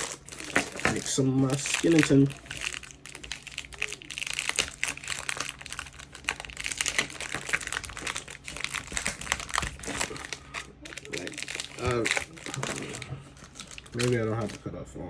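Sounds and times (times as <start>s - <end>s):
plastic and tape crinkling: 0.0s - 14.8s.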